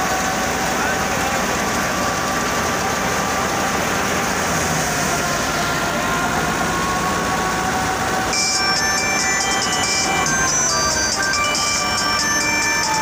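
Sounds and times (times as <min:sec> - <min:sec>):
belts and pulleys running: 0:00.0 - 0:13.0
tractor diesel engine: 0:00.0 - 0:13.0.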